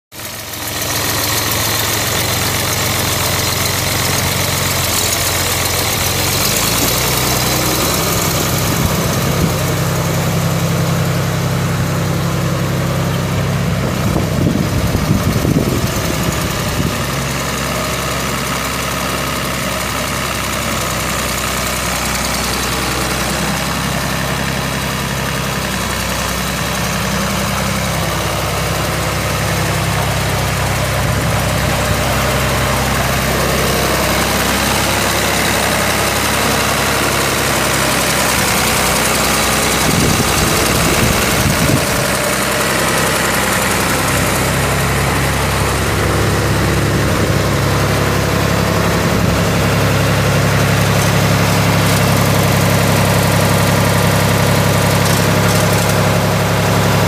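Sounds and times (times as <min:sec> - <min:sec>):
diesel tractor engine idling: 0:00.1 - 0:57.0.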